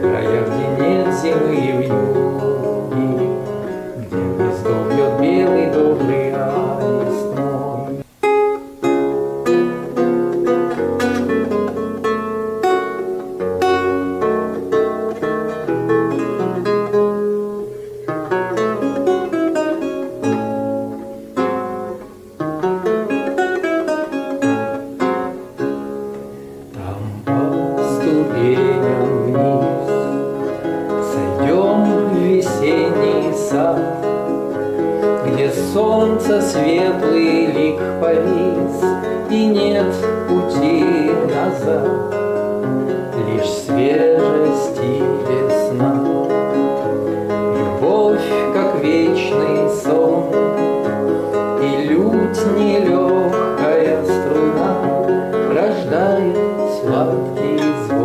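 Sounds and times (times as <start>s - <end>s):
lute playing: 0.0s - 58.0s.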